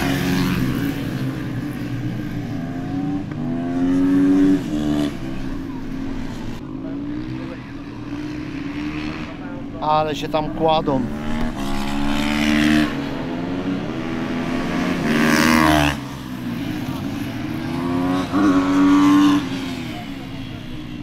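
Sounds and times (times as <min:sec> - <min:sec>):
racing motorcycles revving past: 0:00.0 - 0:21.0.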